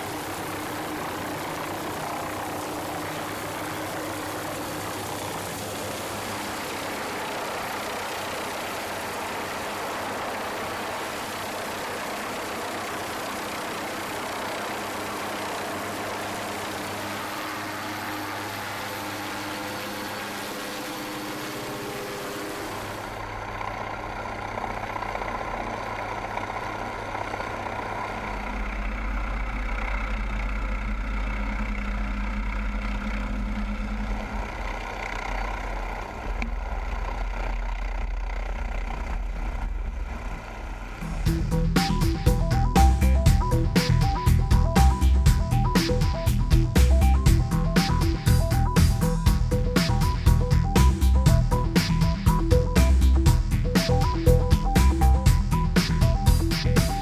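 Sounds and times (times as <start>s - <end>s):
helicopter turbine and rotor noise: 0.0s - 57.0s.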